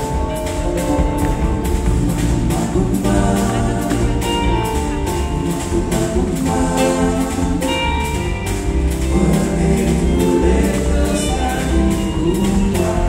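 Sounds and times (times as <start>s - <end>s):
live jazz band playing: 0.0s - 13.0s.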